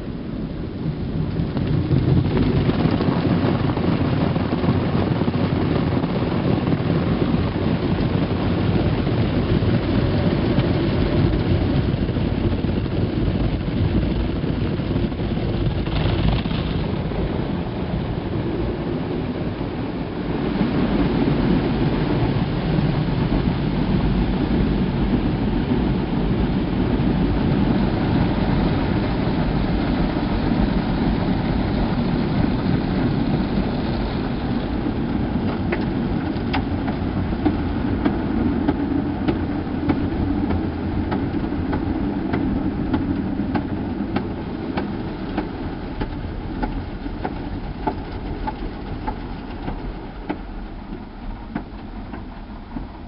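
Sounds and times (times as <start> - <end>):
car wash machine hum: 0.0 - 53.0
water spraying over car: 0.0 - 53.0.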